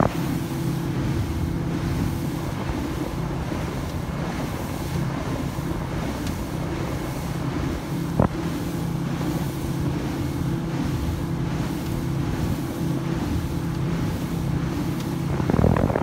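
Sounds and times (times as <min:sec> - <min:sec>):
motorboat engine humming: 0:00.0 - 0:16.0
water rushing past hull: 0:00.0 - 0:16.0.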